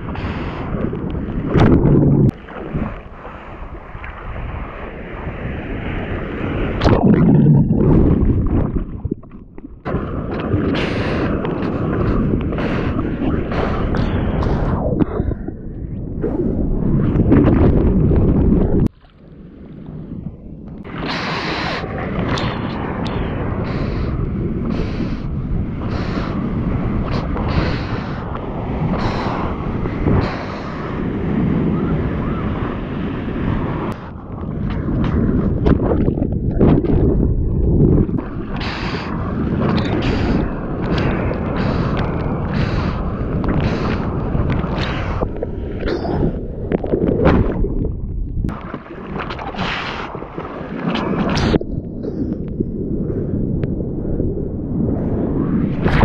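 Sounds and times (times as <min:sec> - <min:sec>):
seawater rushing and splashing: 0:00.0 - 0:15.4, 0:20.8 - 0:52.2
wind rumbling on microphone: 0:00.0 - 0:56.0.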